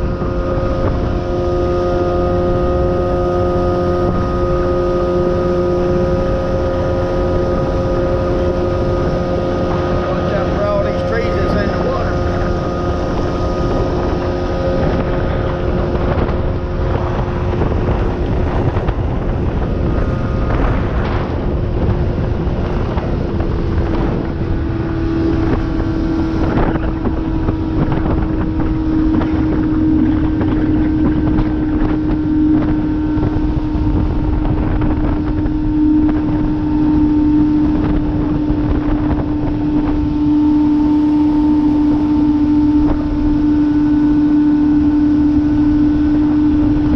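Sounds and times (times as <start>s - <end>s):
outboard motor running: 0.0s - 46.9s
wind noise on microphone: 0.0s - 46.9s.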